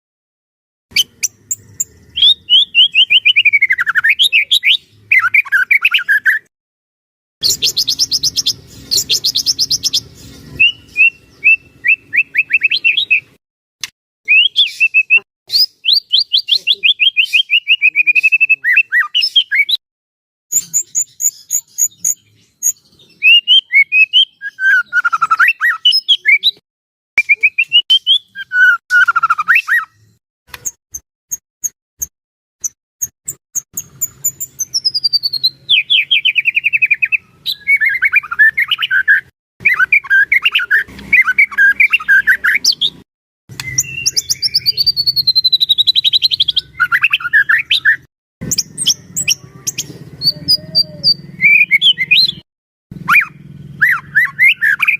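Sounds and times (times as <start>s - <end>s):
songbird singing varied song: 0.9s - 6.5s, 7.4s - 13.4s, 14.3s - 19.8s, 20.5s - 26.6s, 27.2s - 30.7s, 32.0s - 54.9s.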